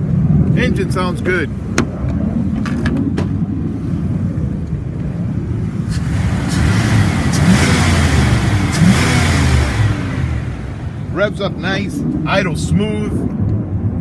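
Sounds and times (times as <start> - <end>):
truck engine idling and revving: 0.0 - 14.0.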